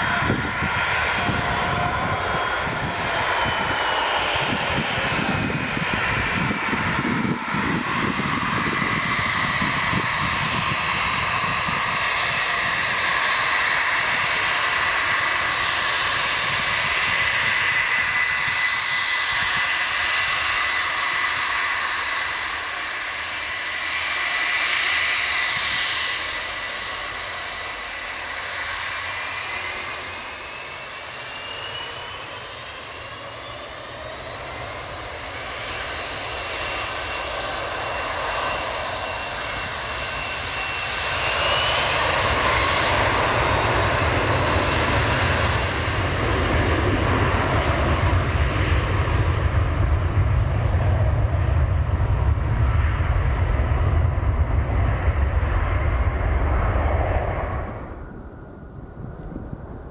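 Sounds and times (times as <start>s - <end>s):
jet engines spooling up with rumble: 0.0s - 59.9s
jet engines whining: 0.0s - 59.9s.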